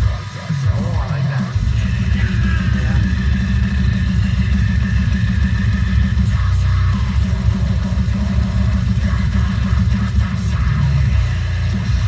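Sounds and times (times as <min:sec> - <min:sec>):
heavy metal song: 0:00.0 - 0:12.0.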